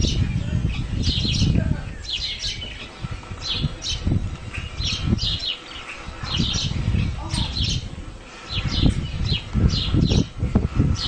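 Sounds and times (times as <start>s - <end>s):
small bird chirping: 0.0s - 10.3s.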